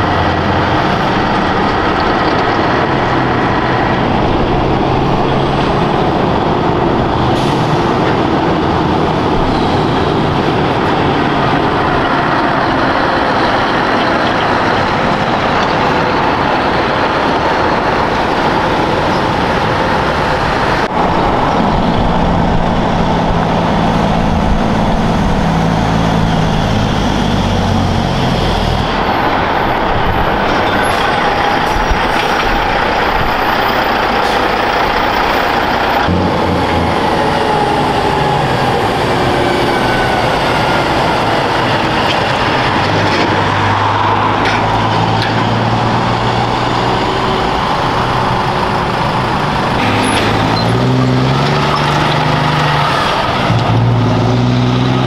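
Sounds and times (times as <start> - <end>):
diesel trucks driving past: 0.0 - 55.0
tyres rolling on road: 0.0 - 55.0.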